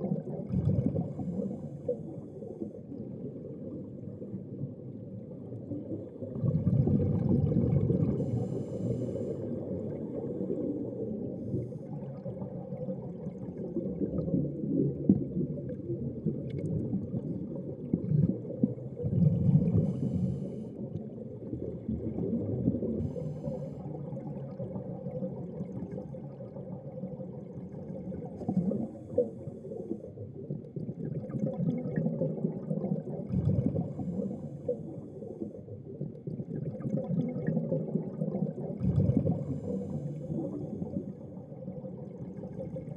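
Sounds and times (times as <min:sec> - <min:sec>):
gurgling exhaled bubbles: 0:00.0 - 0:42.9
muffled underwater rumble: 0:00.0 - 0:42.9.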